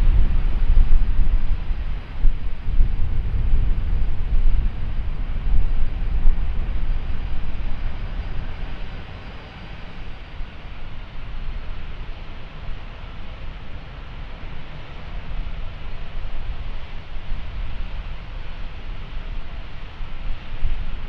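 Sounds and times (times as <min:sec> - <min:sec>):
jet airliner engines rumbling: 0:00.0 - 0:21.0.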